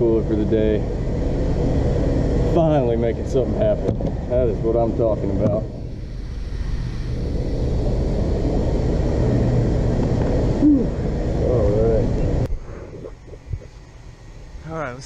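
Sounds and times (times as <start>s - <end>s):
pitched wavering sound: 0.0s - 13.8s
low motor rumble: 0.0s - 15.0s.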